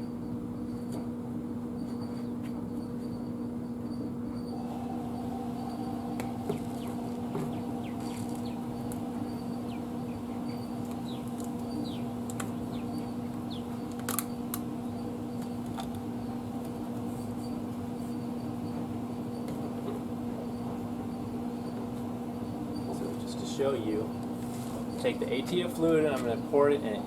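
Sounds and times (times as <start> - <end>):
machine hum: 4.4 - 27.0.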